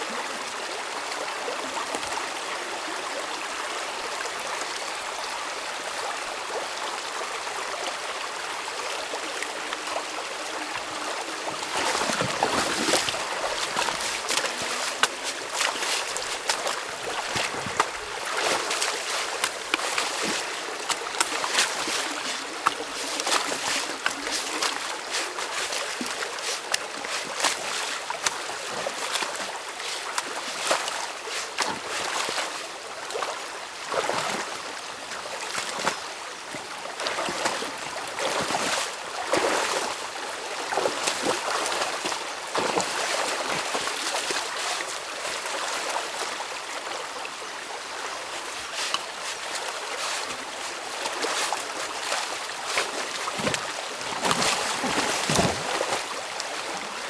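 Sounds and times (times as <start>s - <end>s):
stream water rushing and gurgling: 0.0s - 57.0s
water splashing: 9.4s - 46.3s, 47.8s - 57.0s.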